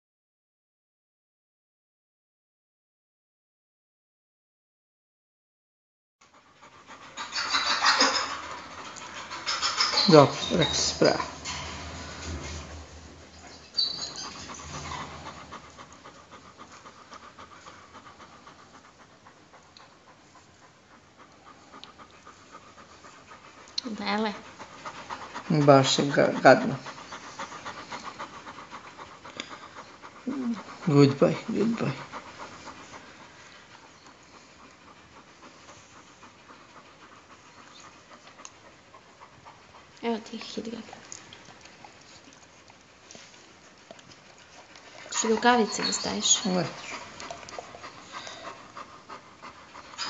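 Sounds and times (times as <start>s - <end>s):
dog panting: 6.2s - 50.0s.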